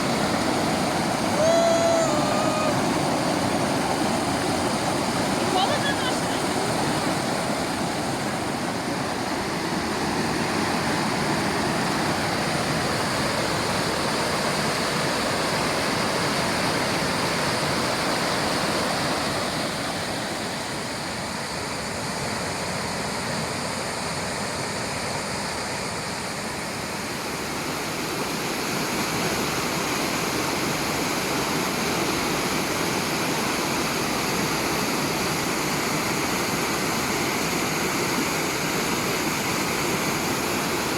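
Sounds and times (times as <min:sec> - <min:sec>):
waterfall rushing: 0:00.0 - 0:23.0, 0:26.1 - 0:40.9.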